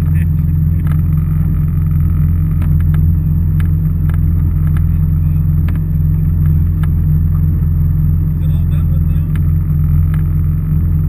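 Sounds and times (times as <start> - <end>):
watercraft engine idling: 0.0 - 11.0.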